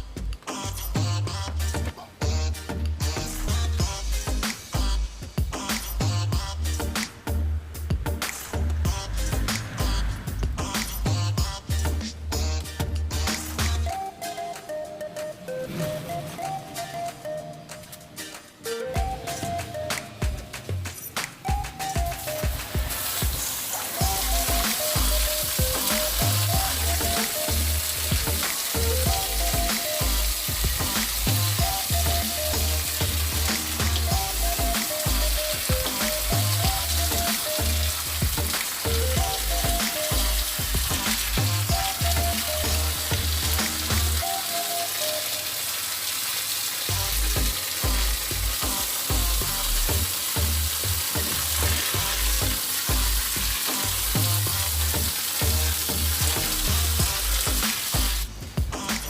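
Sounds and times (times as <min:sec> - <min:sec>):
background music with bass line: 0:00.0 - 0:45.2, 0:46.9 - 0:59.0
crackling hiss: 0:03.3 - 0:13.8, 0:15.4 - 0:59.0.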